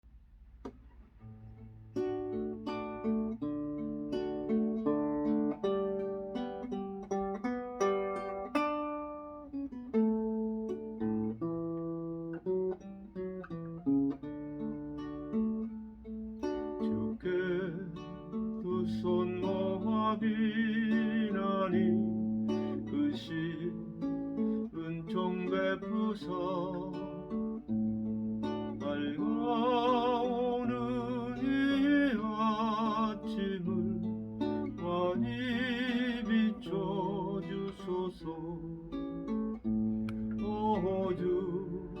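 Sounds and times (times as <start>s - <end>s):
acoustic guitar strumming: 0.6s - 42.0s.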